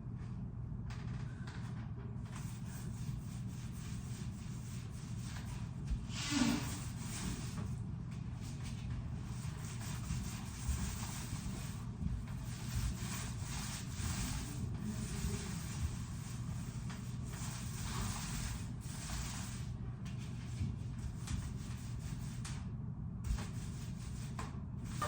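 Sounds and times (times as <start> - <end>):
low steady rumble: 0.0 - 25.0
paint roller rubbing strokes: 2.3 - 22.6, 23.3 - 25.0.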